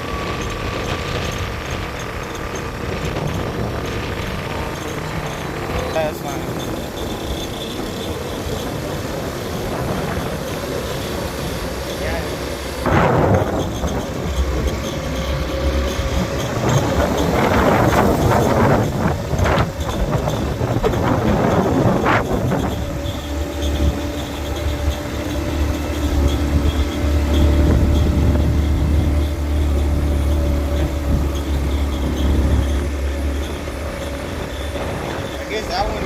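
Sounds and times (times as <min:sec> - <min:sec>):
motorcycle engine drone: 0:00.0 - 0:36.0
wind rushing over microphone: 0:00.0 - 0:36.0.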